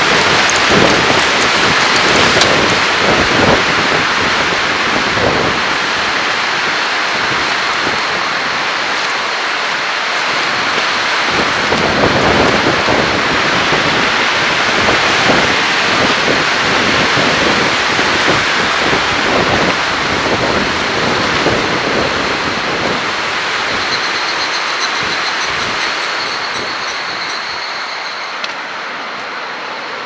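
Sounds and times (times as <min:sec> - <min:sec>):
strong wind buffeting microphone: 0:00.0 - 0:29.2.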